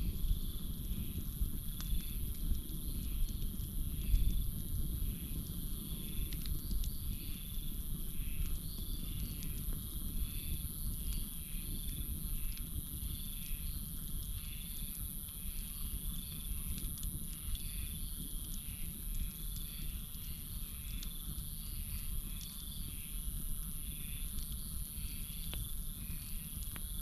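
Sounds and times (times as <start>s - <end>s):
campfire crackling: 0.0s - 27.0s
crickets or frogs chirping: 0.0s - 27.0s
night insects droning: 0.0s - 27.0s.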